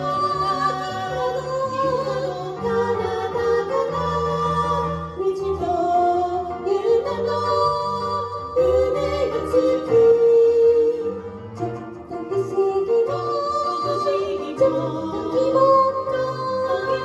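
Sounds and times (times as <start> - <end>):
two women singing: 0.0 - 17.0.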